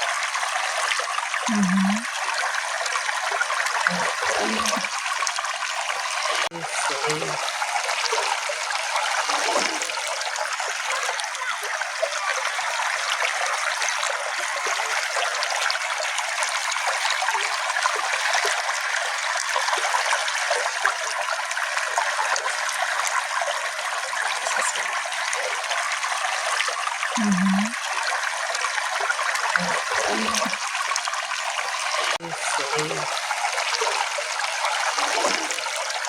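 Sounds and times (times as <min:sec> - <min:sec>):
small brook flowing: 0:00.0 - 0:36.0.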